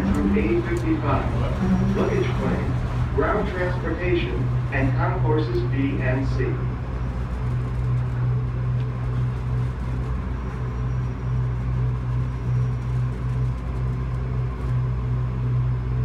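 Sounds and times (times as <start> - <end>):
people mover cabin hum and rumble: 0.0 - 16.0.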